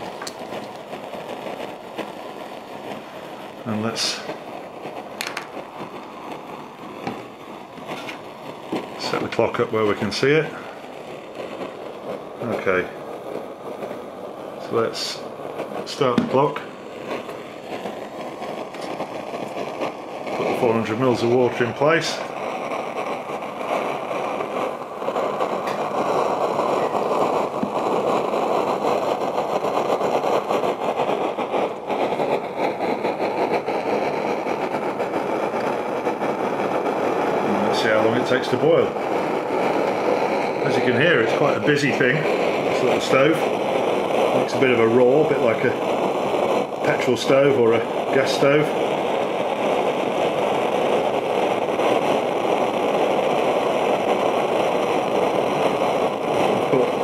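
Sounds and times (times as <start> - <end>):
alcohol stove roaring: 0.0 - 57.0.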